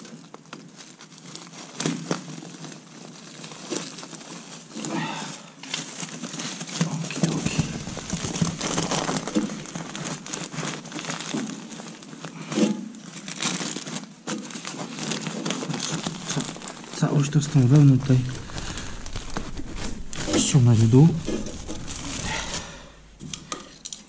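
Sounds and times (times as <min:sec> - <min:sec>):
foil duct crinkling: 0:00.0 - 0:24.0.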